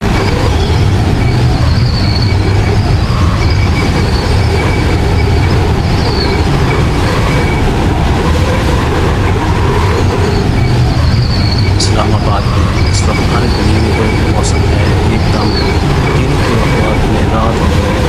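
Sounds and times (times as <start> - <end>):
high wind whistling: 0.0 - 18.0
storm wind buffeting microphone: 0.0 - 18.0.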